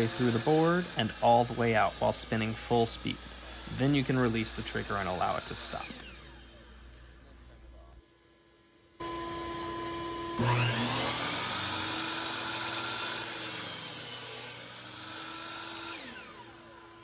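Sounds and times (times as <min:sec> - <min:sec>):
miter saw motor whining: 0:00.0 - 0:06.9, 0:09.0 - 0:17.0
shop vacuum running: 0:00.0 - 0:17.0.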